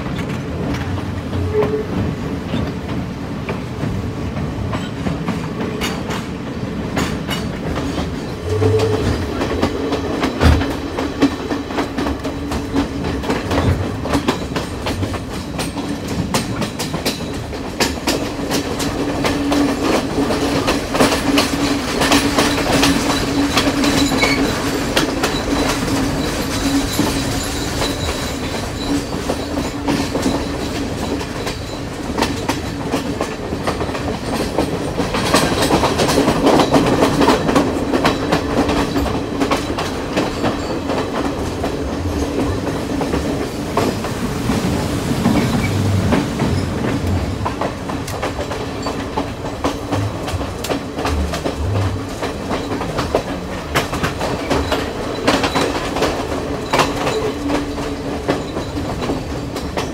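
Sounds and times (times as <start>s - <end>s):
train rumbling roar: 0.0s - 59.9s
wheels clacking over rail joints: 0.0s - 59.9s.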